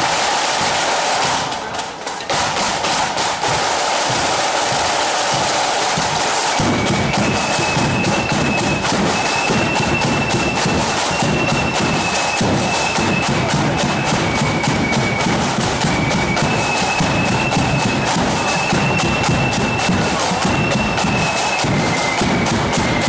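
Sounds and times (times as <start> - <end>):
snare drums march beat: 0.0 - 23.0
bass drum: 2.3 - 23.0
flutes playing melody: 3.7 - 23.0.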